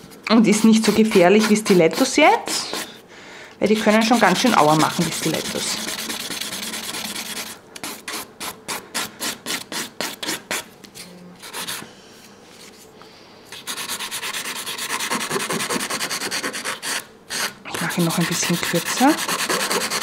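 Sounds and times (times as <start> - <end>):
nail file rubbing on nail: 0.4 - 3.0, 3.6 - 10.7, 13.5 - 20.0.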